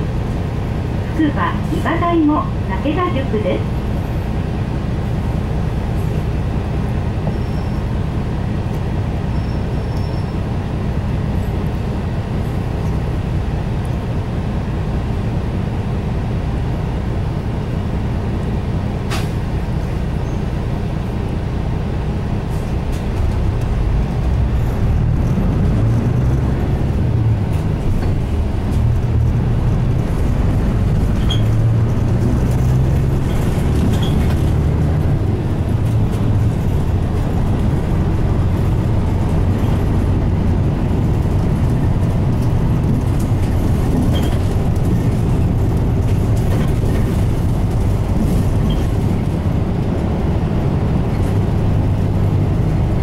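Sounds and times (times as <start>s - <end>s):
bus diesel engine from inside: 0.0s - 53.0s.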